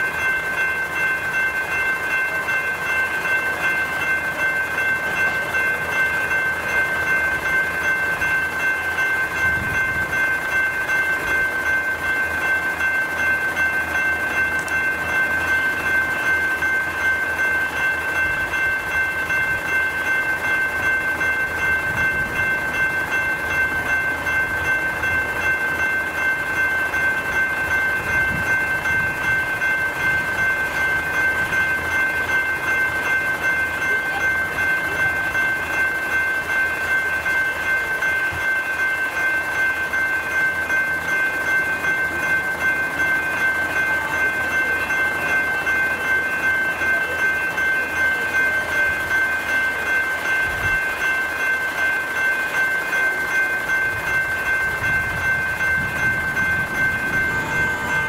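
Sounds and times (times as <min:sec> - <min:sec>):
level crossing bells ringing: 0:00.0 - 0:58.0.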